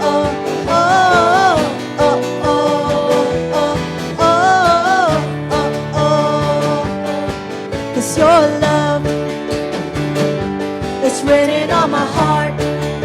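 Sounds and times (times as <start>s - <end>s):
worship band guitar chords: 0.0s - 13.0s.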